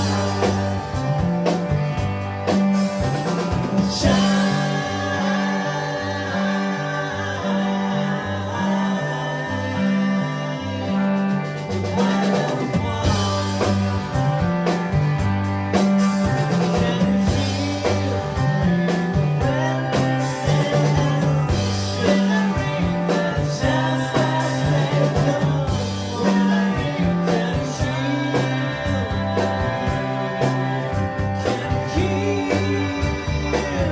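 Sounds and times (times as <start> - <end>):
live rock band playing: 0.0 - 33.9
person singing: 3.1 - 14.4, 16.3 - 33.9.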